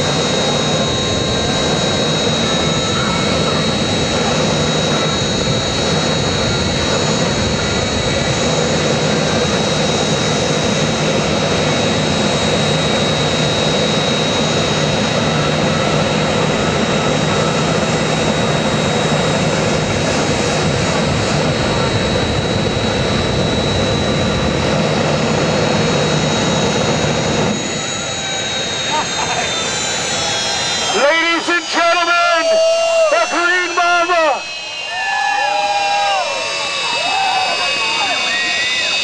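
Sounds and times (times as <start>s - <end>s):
jet engine roaring: 0.0s - 39.0s.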